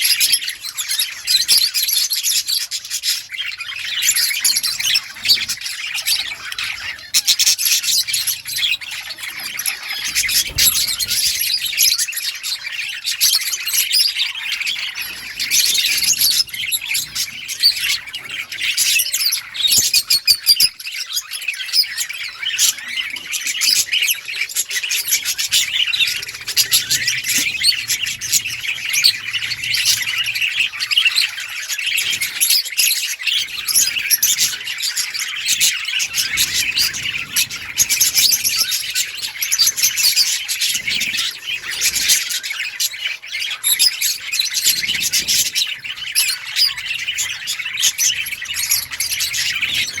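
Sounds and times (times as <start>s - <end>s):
budgerigars chirping: 0.0s - 50.0s.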